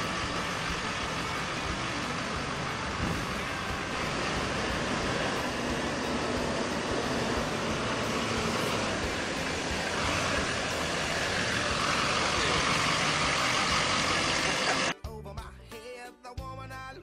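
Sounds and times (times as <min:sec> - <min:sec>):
road and tyre noise: 0:00.0 - 0:14.9
truck engine running: 0:00.0 - 0:14.9.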